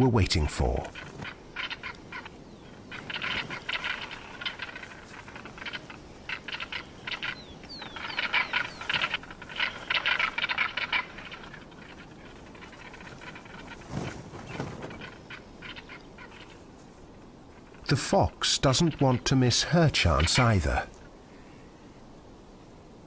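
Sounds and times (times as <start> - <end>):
birds calling with rattling notes: 0.0 - 22.0.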